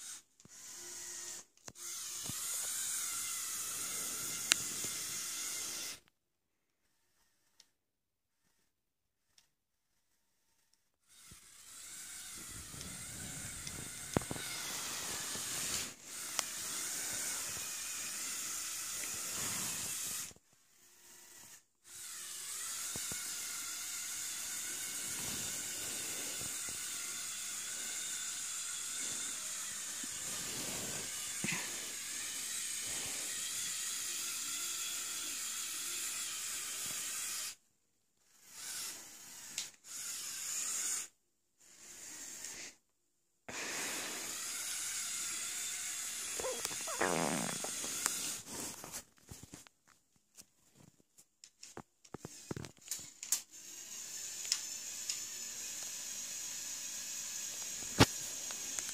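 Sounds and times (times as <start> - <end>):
toy crane motors whirring: 0.0 - 6.1, 6.8 - 42.8, 43.5 - 58.9.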